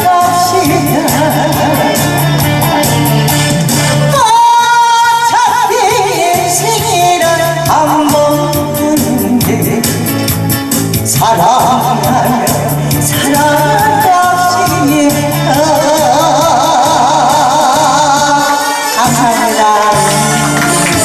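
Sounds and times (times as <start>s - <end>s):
woman singing into microphone: 0.0s - 10.4s, 11.0s - 21.0s
backing track with steady beat: 0.0s - 21.0s.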